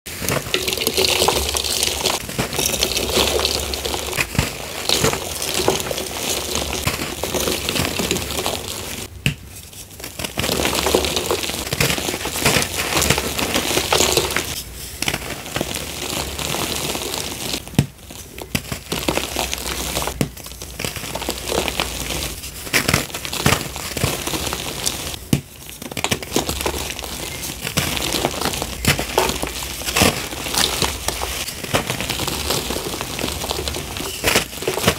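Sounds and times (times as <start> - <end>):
chalk crunching and crumbling: 0.1 - 34.9.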